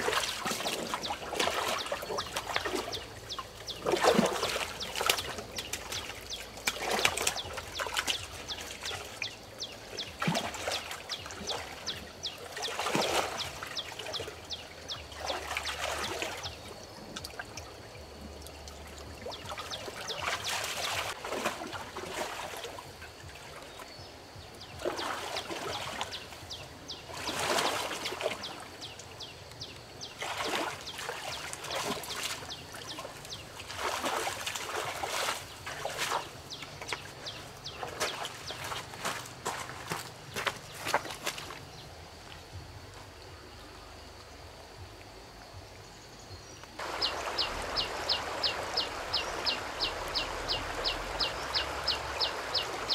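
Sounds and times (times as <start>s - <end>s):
shallow water splashing: 0.0s - 24.0s, 24.6s - 42.3s, 46.8s - 52.9s.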